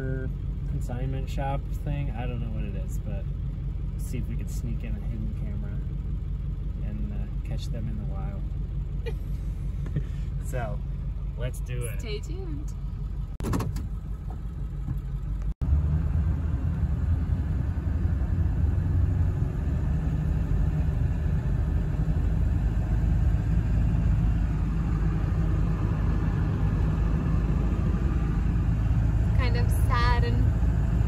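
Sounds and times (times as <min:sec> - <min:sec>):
diesel engine drone in cab: 0:00.0 - 0:31.0
road rumble: 0:00.0 - 0:31.0.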